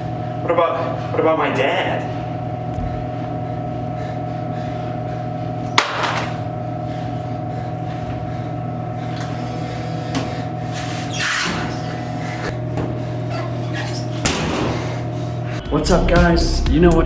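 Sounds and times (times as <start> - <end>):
steady two-tone hum: 0.0 - 17.0.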